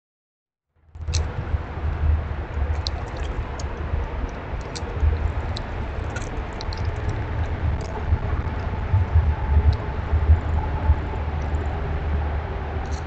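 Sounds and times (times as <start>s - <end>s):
uneven low rumble: 0.9s - 13.0s.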